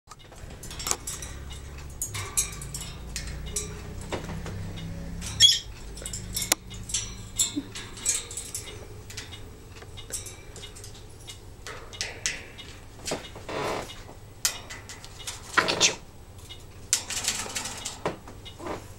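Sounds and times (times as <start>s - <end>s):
parrot beak and claws tapping bars: 0.1s - 18.9s.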